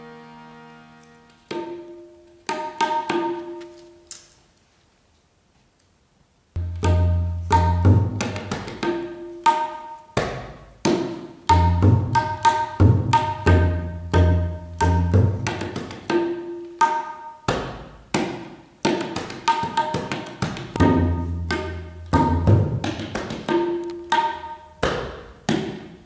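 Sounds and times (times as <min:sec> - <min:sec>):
tabla drumming: 0:01.5 - 0:03.6, 0:06.6 - 0:26.0.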